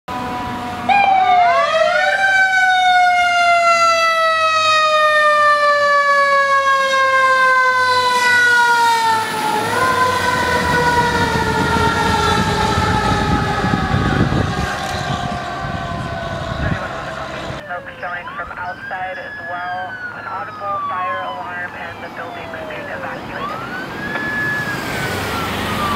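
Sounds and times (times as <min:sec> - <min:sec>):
fire engine siren wailing: 0:00.1 - 0:25.9
truck engine and road rumble: 0:00.1 - 0:25.9.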